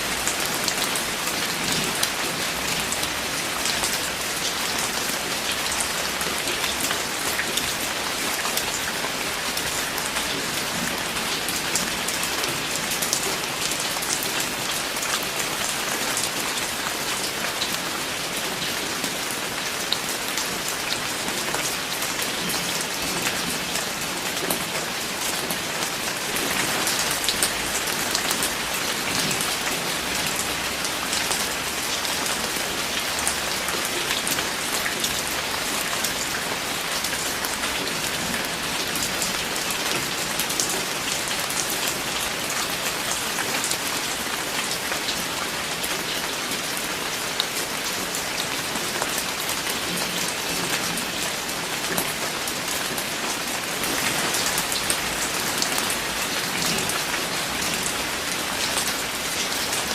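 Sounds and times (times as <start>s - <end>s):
rain drops pattering: 0.0s - 59.9s.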